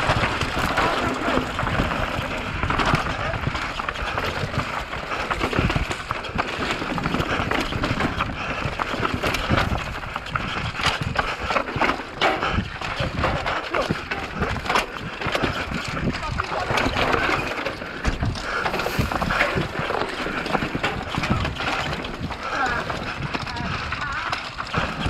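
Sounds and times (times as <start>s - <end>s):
bike clattering over rocks: 0.0s - 25.0s
wind noise: 0.0s - 25.0s.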